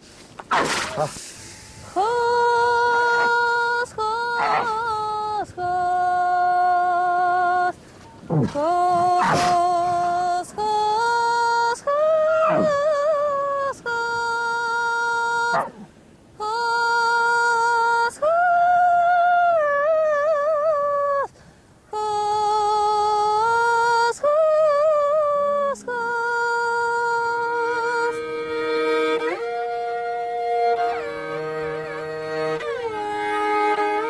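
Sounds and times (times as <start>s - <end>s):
woman singing wordlessly: 2.0s - 7.8s, 8.4s - 21.3s, 21.9s - 34.0s.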